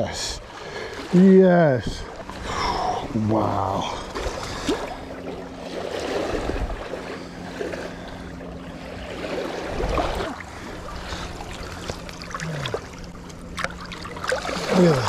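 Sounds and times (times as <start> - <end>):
shallow water rushing and splashing: 0.0 - 15.0
water sloshes: 0.4 - 15.0.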